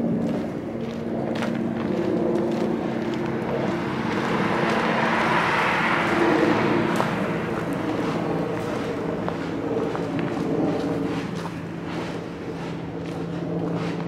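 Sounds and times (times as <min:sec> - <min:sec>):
low traffic hum: 0:00.0 - 0:14.0
car passing: 0:01.4 - 0:14.0.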